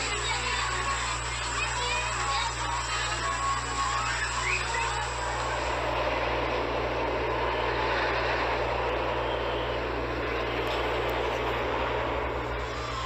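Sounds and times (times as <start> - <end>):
constant low hum: 0.0 - 13.0
roller coaster rumbling on track: 0.0 - 13.0.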